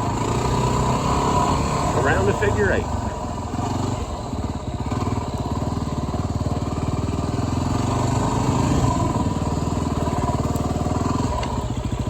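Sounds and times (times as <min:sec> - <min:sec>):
motorcycle engine at low speed: 0:00.0 - 0:12.0.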